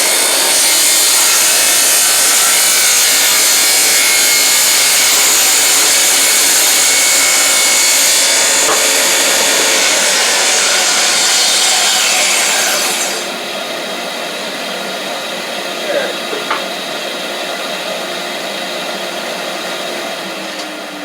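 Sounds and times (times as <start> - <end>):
table saw cutting wood: 0.0 - 21.0.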